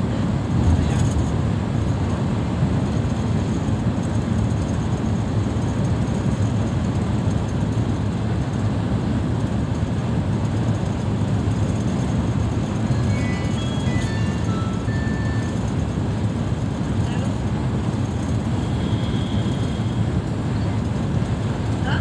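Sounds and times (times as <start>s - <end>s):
vehicle tyres and engine rumble: 0.0s - 22.0s.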